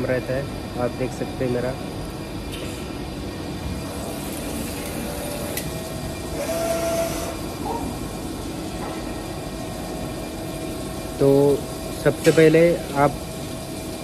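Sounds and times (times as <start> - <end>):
machinery hum and hiss: 0.0 - 14.0.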